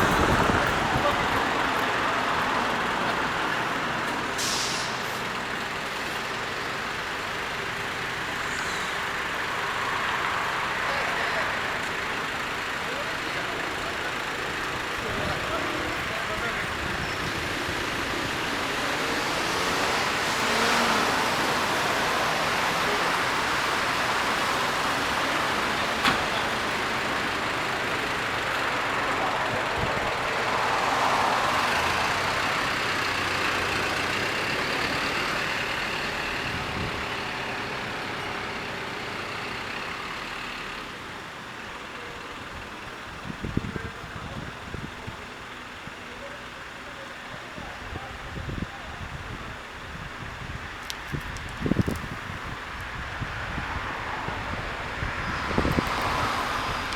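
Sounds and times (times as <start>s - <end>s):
heavy vehicles running slowly: 0.0s - 56.9s.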